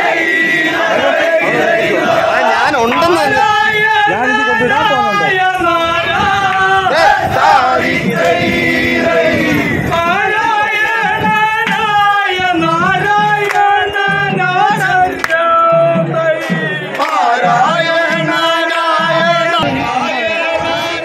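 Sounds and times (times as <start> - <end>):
group of men singing: 0.0 - 21.0.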